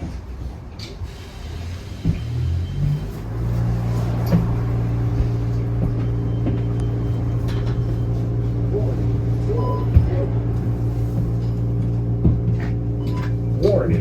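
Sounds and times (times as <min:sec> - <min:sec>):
trolleybus electric hum: 0:00.0 - 0:14.0.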